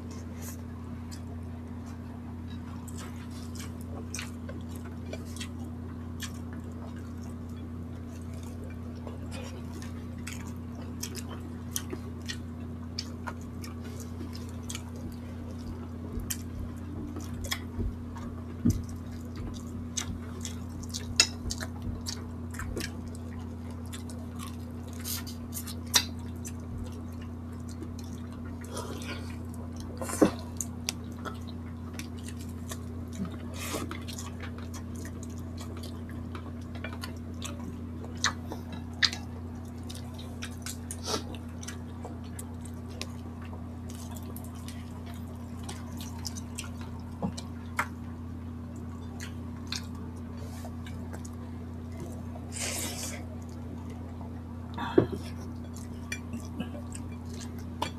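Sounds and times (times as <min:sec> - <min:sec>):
mouth clicks and chewing: 0:00.0 - 0:54.0, 0:55.2 - 0:57.9
steady low hum: 0:00.0 - 0:57.9.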